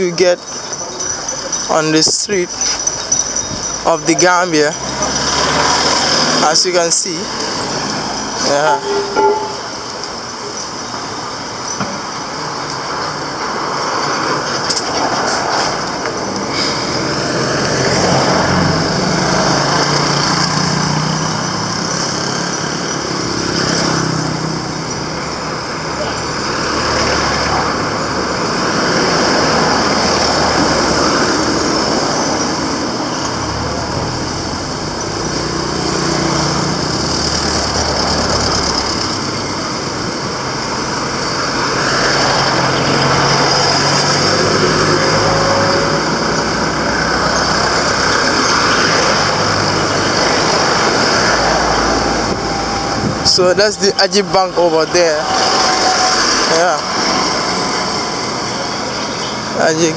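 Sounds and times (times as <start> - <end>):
vehicle engines passing: 0.0 - 59.9
voices of people on street: 0.0 - 59.9.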